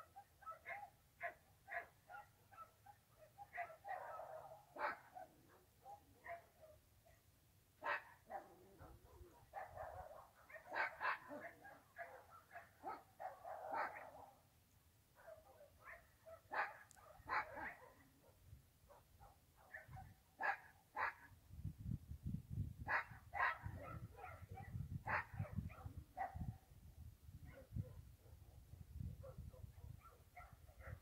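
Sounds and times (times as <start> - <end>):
dogs barking: 0.0 - 6.8, 7.8 - 14.4, 15.2 - 21.3, 22.9 - 26.5, 29.2 - 31.0.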